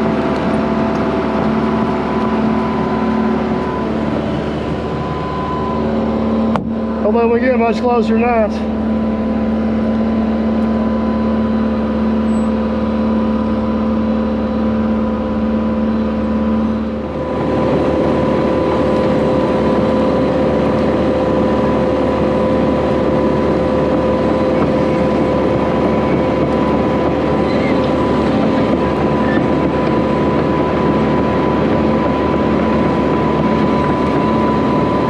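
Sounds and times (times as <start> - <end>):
heavy machine engine running: 0.0 - 35.0.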